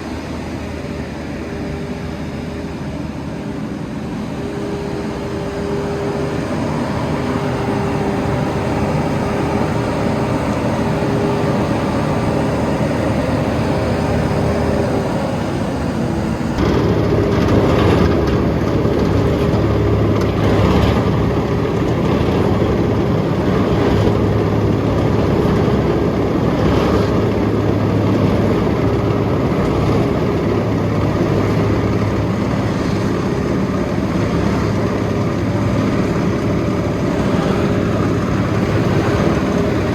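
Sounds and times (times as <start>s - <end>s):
diesel engine running: 0.0s - 39.9s
steady whine: 0.0s - 39.9s.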